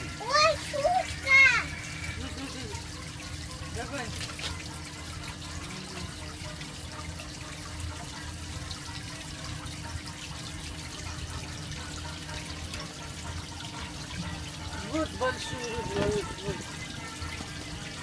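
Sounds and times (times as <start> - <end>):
water churning and trickling: 0.0 - 18.0.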